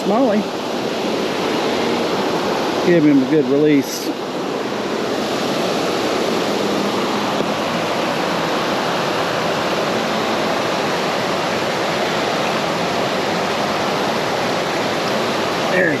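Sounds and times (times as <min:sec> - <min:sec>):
river current rushing: 0:00.0 - 0:16.0.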